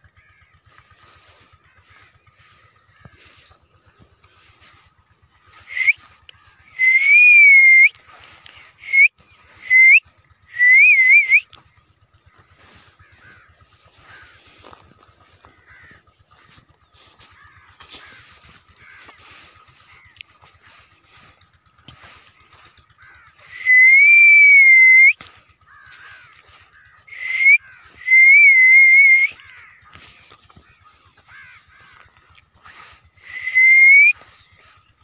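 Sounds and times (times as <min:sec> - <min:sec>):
loud whistling calls: 0:00.7 - 0:35.0.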